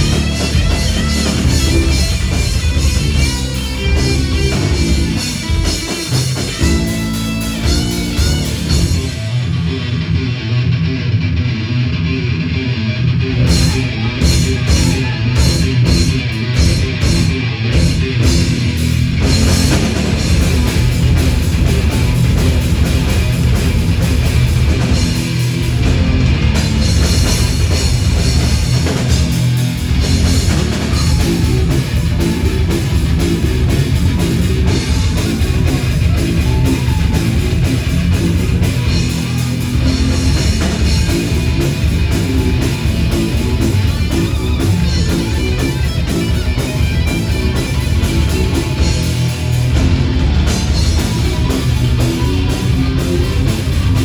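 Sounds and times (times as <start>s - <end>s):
drum kit: 0.0s - 11.0s, 13.3s - 54.0s
bass guitar: 0.0s - 54.0s
electric guitars: 0.0s - 54.0s.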